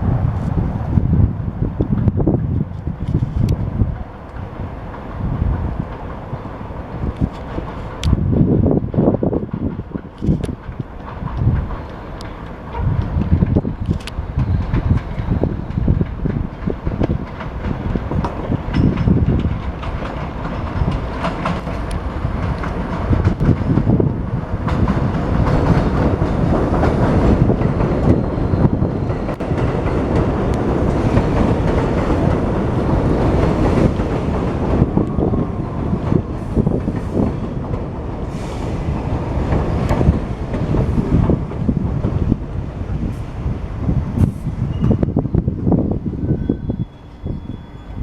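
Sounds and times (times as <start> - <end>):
train wheels clattering on rails: 1.7 - 48.0.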